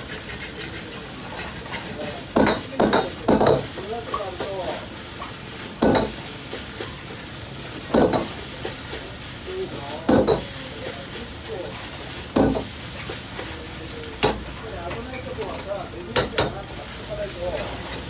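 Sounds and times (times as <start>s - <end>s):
rice sizzling in a wok: 0.0s - 18.0s.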